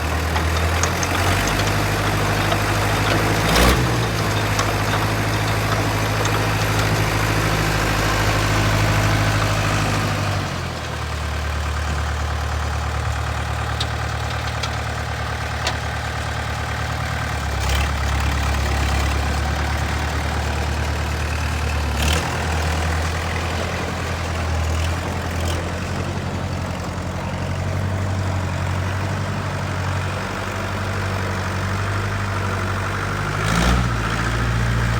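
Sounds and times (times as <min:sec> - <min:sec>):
trencher engine idling: 0:00.0 - 0:34.9.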